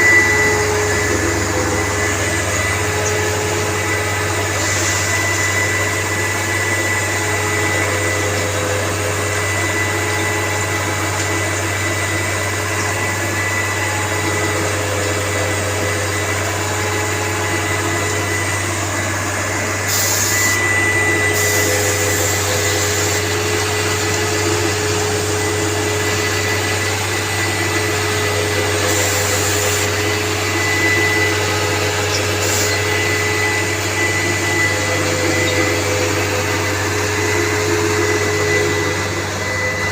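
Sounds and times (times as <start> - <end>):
concrete mixer machinery droning: 0.0 - 39.9.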